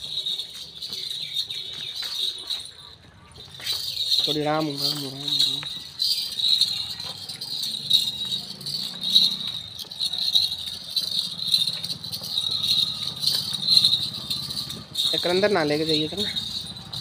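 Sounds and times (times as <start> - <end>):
small bells jingling: 0.0 - 17.0.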